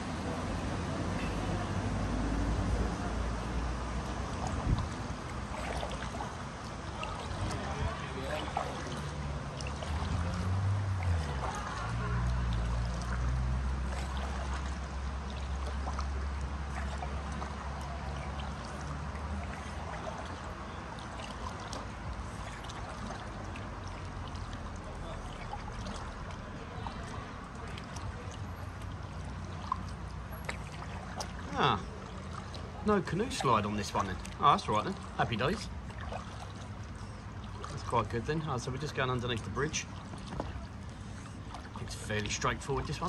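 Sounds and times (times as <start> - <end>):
water trickling: 0.0 - 43.0
paddle splashing in water: 1.2 - 43.0.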